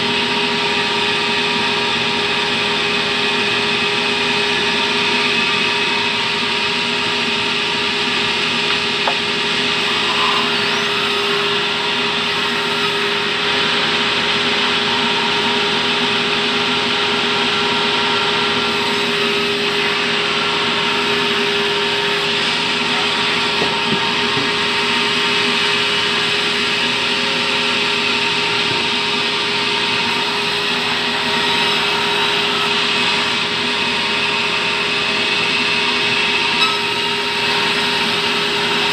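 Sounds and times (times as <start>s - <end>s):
band saw whine: 0.0s - 38.9s.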